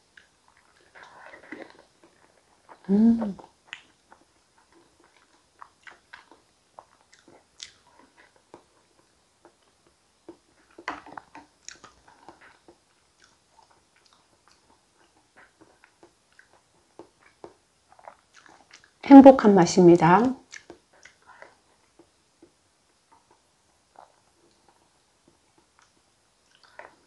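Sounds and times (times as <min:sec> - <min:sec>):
mouth clicks and smacks eating: 0:00.1 - 0:19.0, 0:20.4 - 0:27.0.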